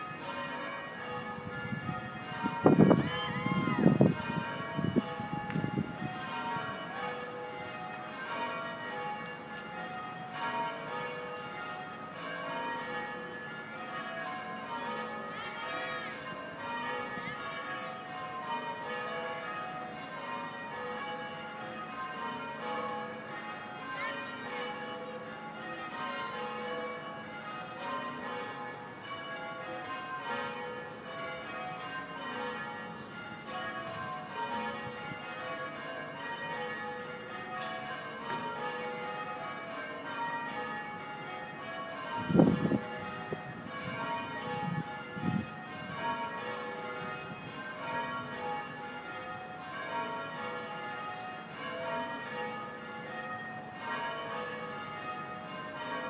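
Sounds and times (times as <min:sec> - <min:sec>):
tower bells ringing: 0:00.0 - 0:56.0.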